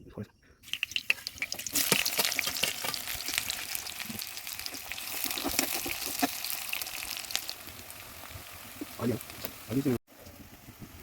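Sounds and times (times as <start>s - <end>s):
food sizzling in hot oil: 0.6s - 11.0s
oil crackles and pops: 0.6s - 11.0s.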